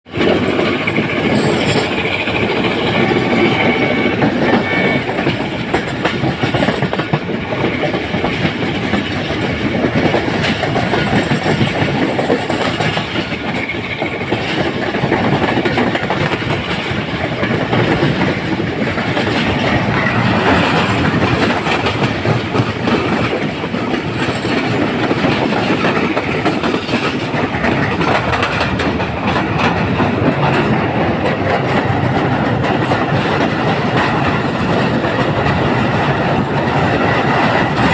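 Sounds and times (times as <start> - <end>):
train wheels clattering on rails: 0.1 - 37.9.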